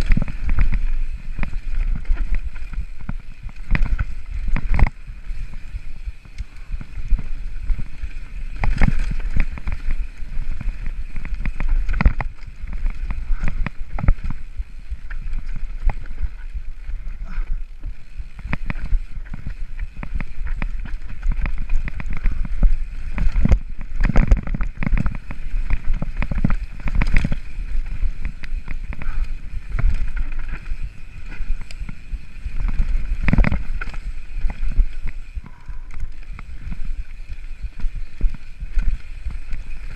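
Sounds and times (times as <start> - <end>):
bike knocking and rattling: 0.0 - 39.9
tyres rumbling on loose stones: 0.0 - 39.9.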